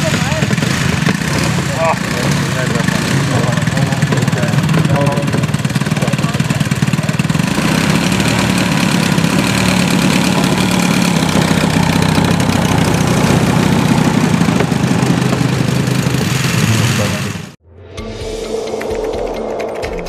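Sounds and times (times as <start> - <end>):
model aircraft engine running: 0.0 - 17.6.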